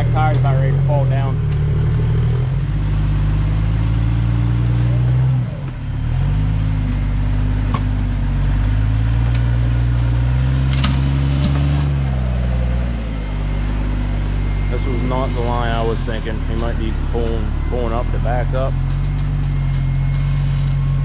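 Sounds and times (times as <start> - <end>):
buggy engine at low revs: 0.0 - 21.0.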